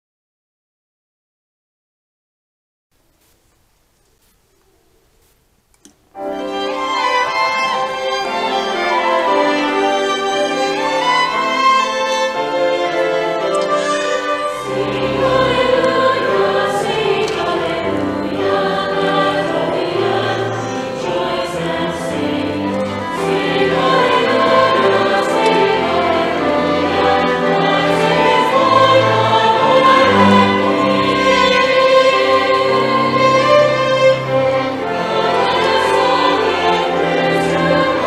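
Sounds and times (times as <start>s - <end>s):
mixed choir singing: 6.2s - 38.0s
violins: 6.2s - 38.0s.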